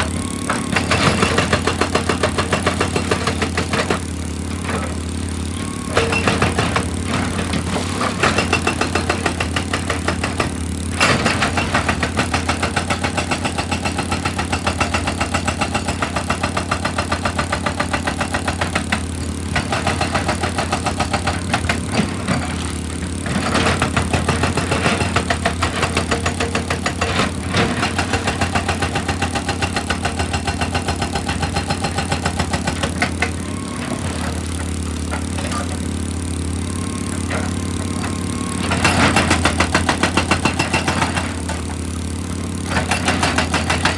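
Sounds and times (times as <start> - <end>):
machine hammering rock: 0.0 - 36.4, 37.0 - 43.9
engine drone: 0.0 - 43.9.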